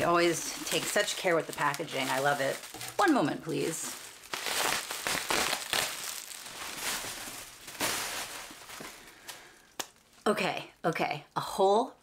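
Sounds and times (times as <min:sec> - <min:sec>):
bubble wrap crinkling: 0:00.0 - 0:10.3.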